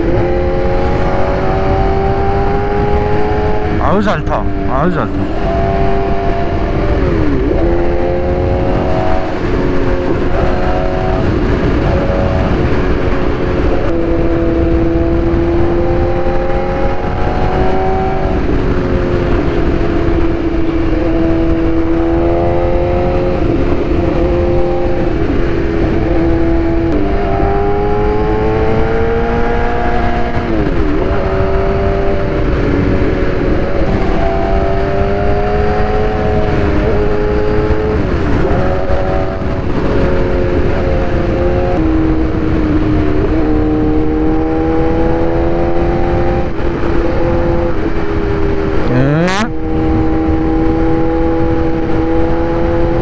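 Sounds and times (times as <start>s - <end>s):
motorcycle engine shifting gears: 0.0s - 53.0s
wind rush on microphone: 0.0s - 53.0s.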